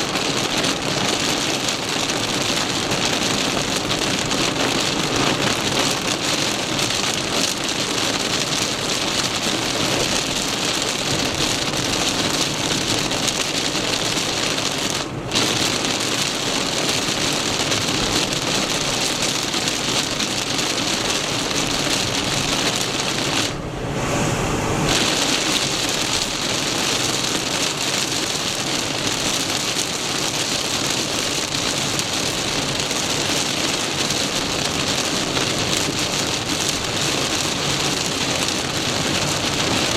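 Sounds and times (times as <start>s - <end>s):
heavy rain on moving car: 0.0s - 39.9s.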